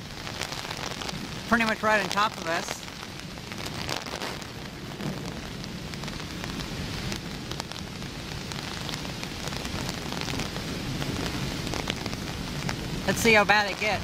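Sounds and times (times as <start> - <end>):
heavy rain falling: 0.0 - 14.0
raindrops tapping nearby: 0.0 - 14.0
wind rumbling on microphone: 0.0 - 14.0.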